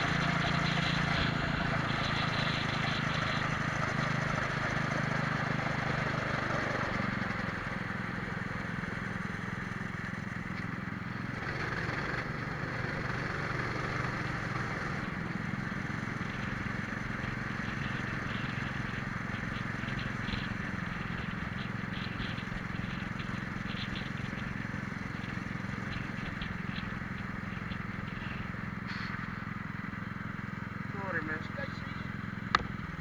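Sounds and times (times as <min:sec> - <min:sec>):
kart engines running at low revs: 0:00.0 - 0:33.0.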